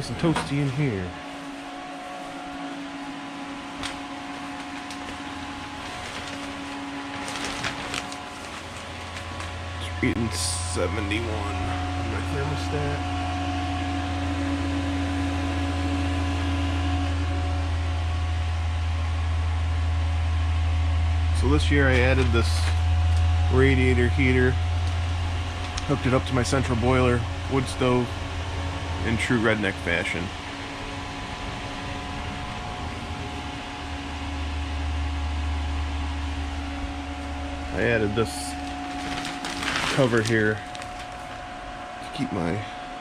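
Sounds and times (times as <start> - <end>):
heater fan hum and air rush: 0.0 - 43.0.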